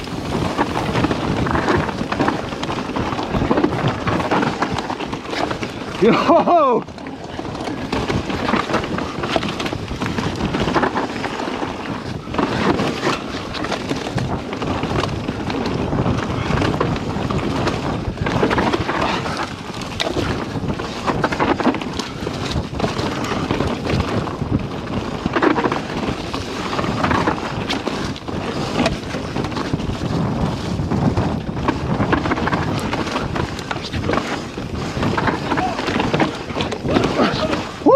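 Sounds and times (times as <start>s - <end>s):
bike rattling and knocking: 0.0s - 37.9s
tyres rolling over dirt and leaves: 0.0s - 37.9s
wind rushing over microphone: 0.0s - 37.9s.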